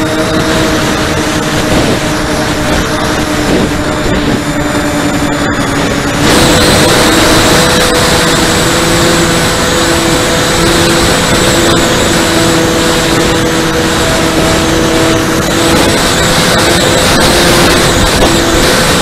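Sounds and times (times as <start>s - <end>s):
electric motors and propellers whining: 0.0s - 19.0s
lower tone: 0.0s - 19.0s
wind rush on microphone: 0.0s - 19.0s.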